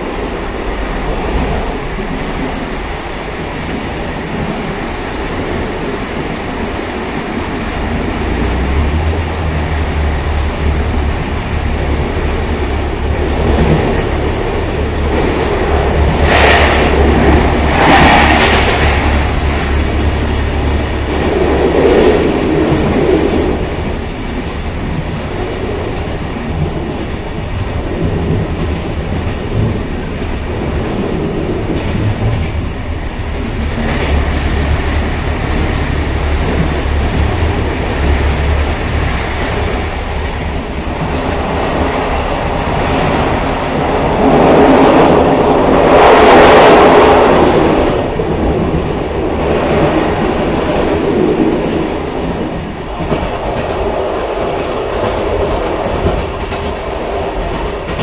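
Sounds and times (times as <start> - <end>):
railcar rumbling on rails: 0.0 - 58.0.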